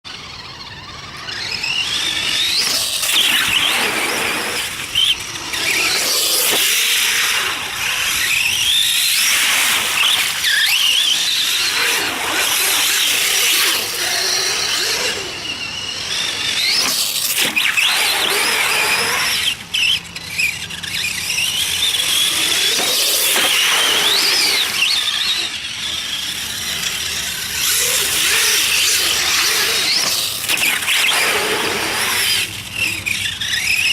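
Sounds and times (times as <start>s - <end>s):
toy truck motor whining: 0.1s - 33.9s.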